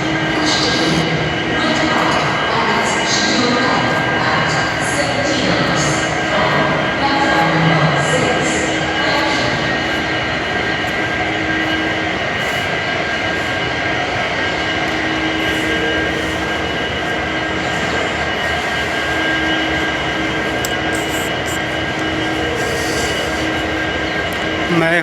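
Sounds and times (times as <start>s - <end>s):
train running roar: 0.0s - 25.0s
whining tones: 0.0s - 25.0s.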